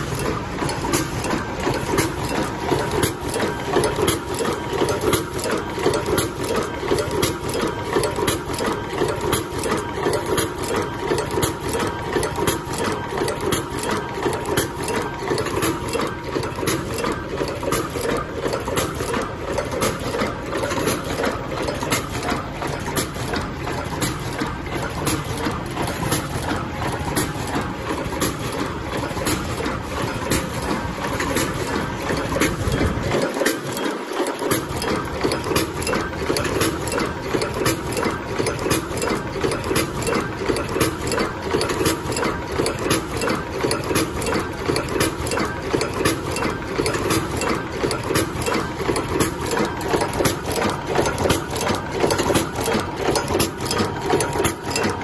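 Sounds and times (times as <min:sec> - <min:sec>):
machine clattering clicks and knocks: 0:00.0 - 0:55.0.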